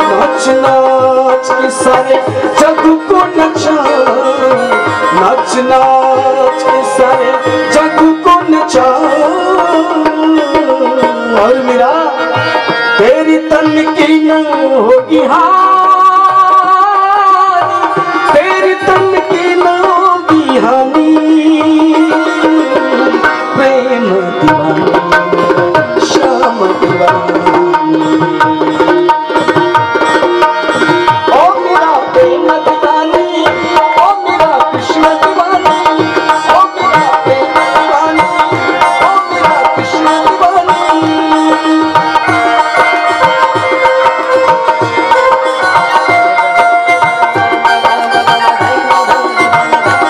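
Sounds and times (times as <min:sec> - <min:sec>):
harmonium chords: 0:00.0 - 0:50.0
keyboard melody: 0:00.0 - 0:50.0
tabla playing fast rhythm: 0:00.0 - 0:50.0.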